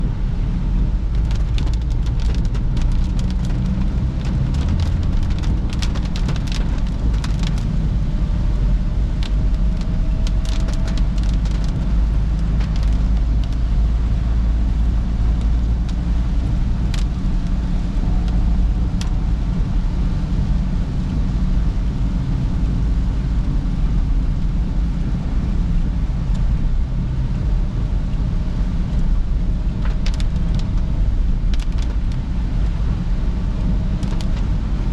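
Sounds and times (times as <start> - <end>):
car engine and tyre rumble: 0.0 - 34.9
raindrops ticking on car: 0.8 - 34.9.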